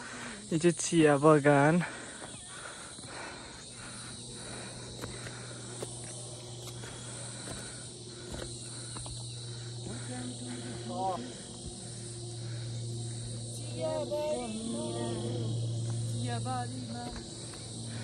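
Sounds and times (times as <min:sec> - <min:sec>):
insects chirring: 0:00.0 - 0:18.0
low hum: 0:00.0 - 0:18.0.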